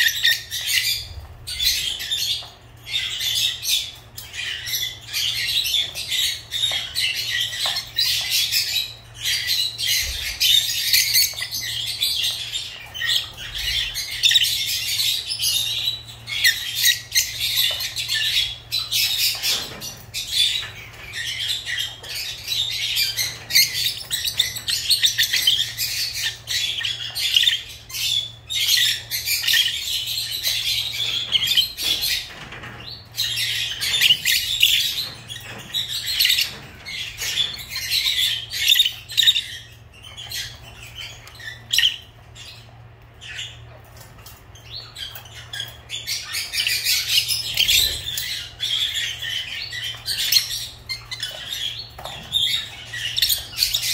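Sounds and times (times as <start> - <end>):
birds chirping and squawking: 0.0 - 53.9.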